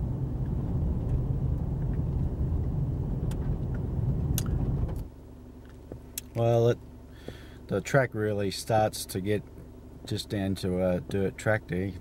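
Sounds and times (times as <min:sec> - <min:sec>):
car road noise rumble: 0:00.0 - 0:12.0
faint hum: 0:00.0 - 0:12.0.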